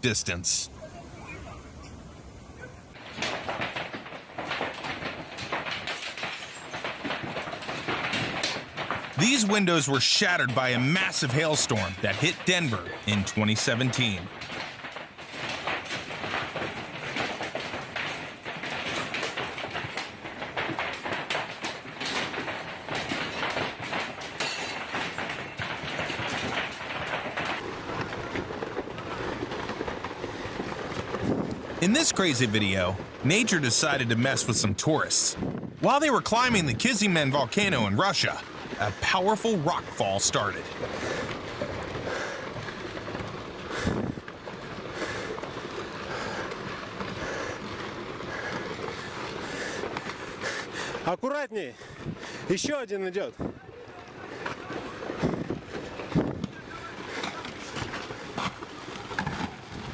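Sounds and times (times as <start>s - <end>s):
heavy hail clattering: 2.9s - 59.9s.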